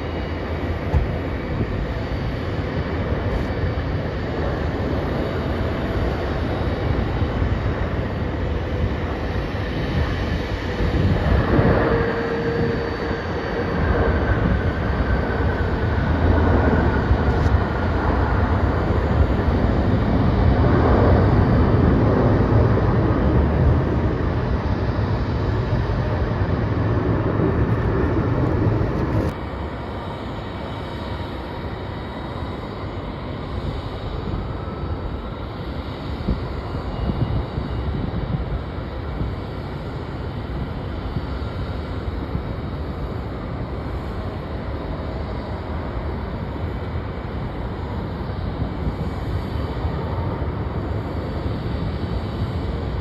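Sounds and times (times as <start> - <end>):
faint jet engine whine: 0.0 - 53.0
jet engine rumble: 0.0 - 53.0.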